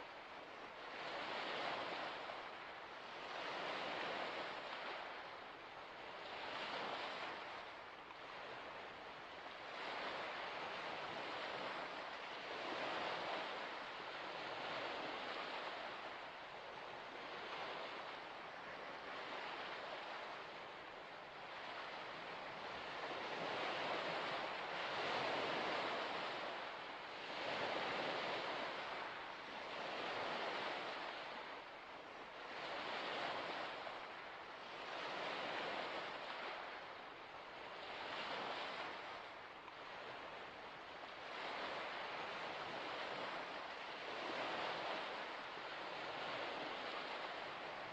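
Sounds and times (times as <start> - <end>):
waves lapping on shore: 0.0 - 47.9
wind: 0.0 - 47.9.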